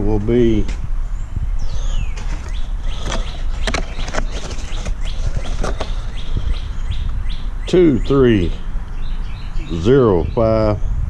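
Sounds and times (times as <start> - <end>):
low rumble of wind or traffic: 0.0 - 11.0.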